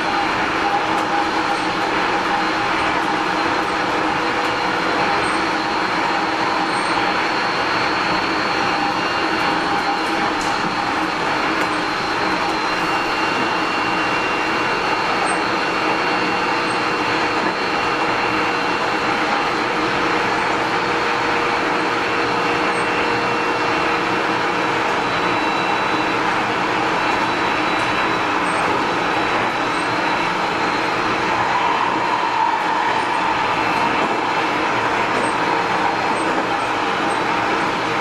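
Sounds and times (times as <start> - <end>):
electric train wheels on rail: 0.0 - 38.0
train motor humming tones: 0.0 - 38.0.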